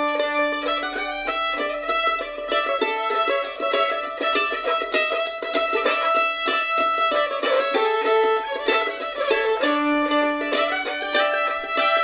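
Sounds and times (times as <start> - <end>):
fiddle bowing melody: 0.0 - 12.0
mandolin picking: 0.0 - 12.0.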